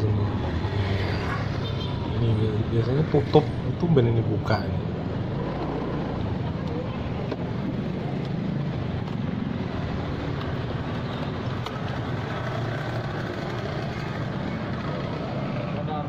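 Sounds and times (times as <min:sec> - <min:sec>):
street noise: 0:00.0 - 0:16.0
vehicle engine rumbling: 0:00.0 - 0:16.0.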